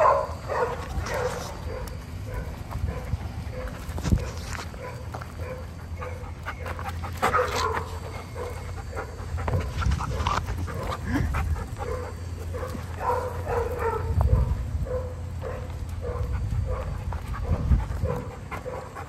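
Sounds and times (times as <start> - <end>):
dogs panting: 0.0 - 19.0
dogs scuffling on gravel: 0.0 - 19.0
dogs vocalising: 0.0 - 19.0.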